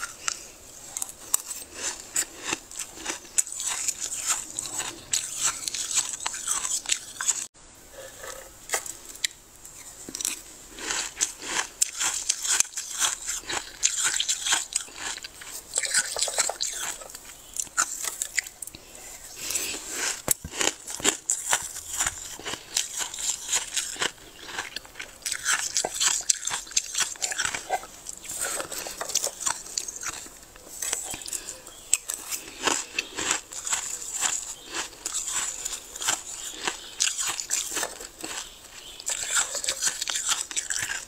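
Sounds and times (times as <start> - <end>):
frost being chewed with crunches: 0.0 - 7.5, 8.7 - 41.0.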